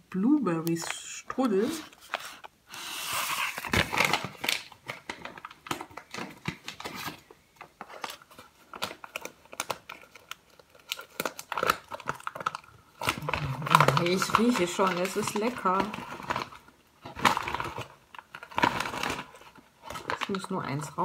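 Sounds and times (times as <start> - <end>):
paper bag crinkling: 1.5 - 21.0.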